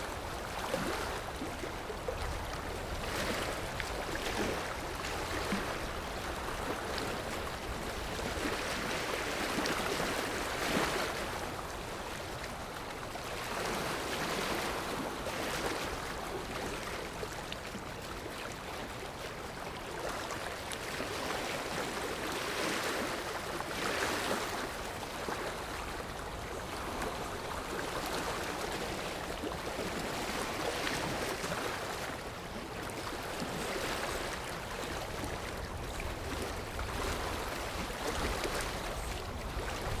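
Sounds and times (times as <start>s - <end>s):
ocean waves washing on shore: 0.0s - 40.0s.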